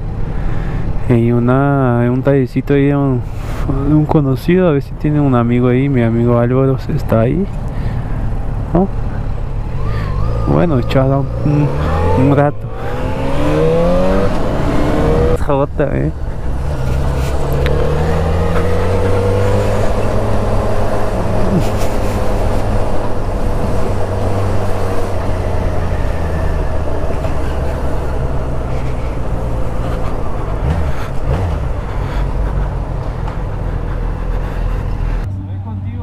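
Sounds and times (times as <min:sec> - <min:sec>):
road and wind noise: 0:00.0 - 0:36.0.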